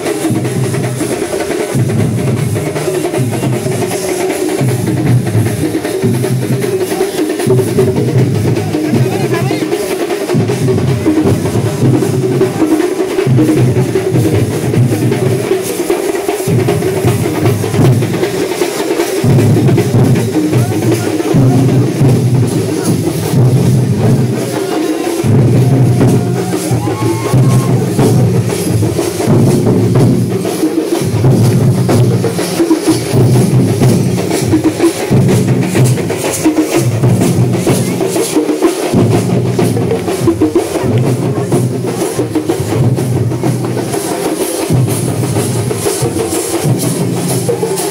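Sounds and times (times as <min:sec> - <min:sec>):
drum troupe playing: 0:00.0 - 0:47.9.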